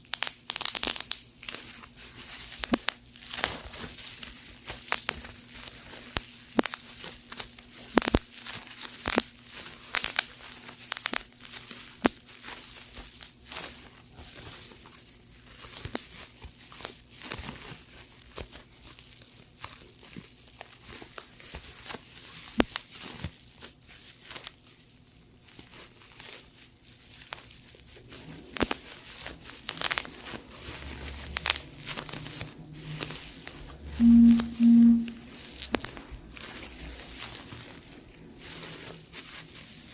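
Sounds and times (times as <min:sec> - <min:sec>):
bubble wrap popping: 0:00.0 - 0:32.5
bubble wrap crinkling: 0:00.0 - 0:39.9.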